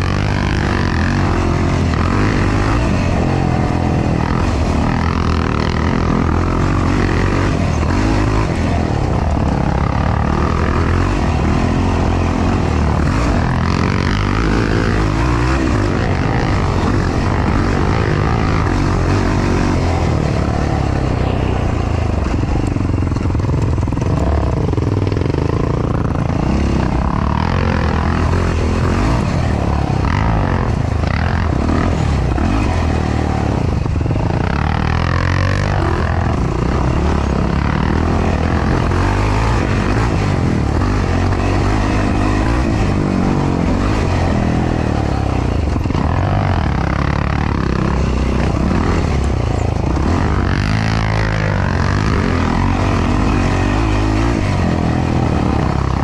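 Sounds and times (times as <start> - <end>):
quad engine running loud: 0.0 - 56.0.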